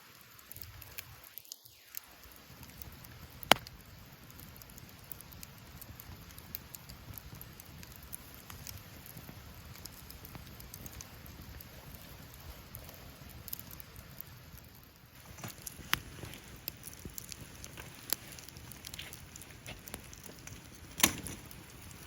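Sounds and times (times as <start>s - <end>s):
campfire crackling: 0.0s - 22.0s
fire popping: 0.0s - 22.0s.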